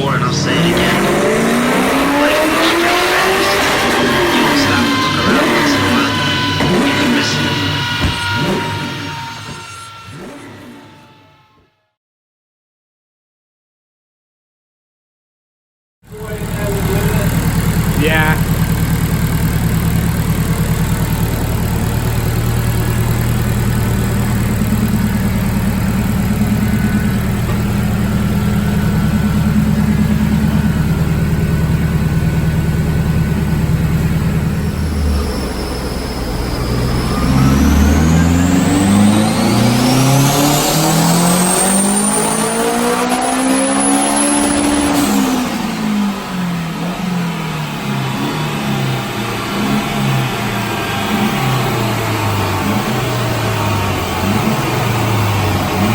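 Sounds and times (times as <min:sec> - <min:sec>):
turbocharged engine running: 0:00.0 - 0:11.5, 0:16.1 - 0:55.9
turbo whine: 0:00.0 - 0:11.8, 0:16.1 - 0:55.9.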